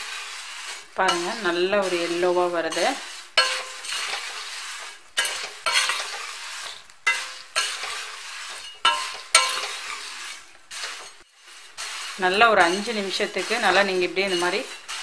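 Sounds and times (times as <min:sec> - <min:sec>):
dry rustle of rice grains: 0:00.0 - 0:05.2, 0:05.9 - 0:06.9, 0:07.7 - 0:15.0
ladle scraping metal pan: 0:00.0 - 0:15.0.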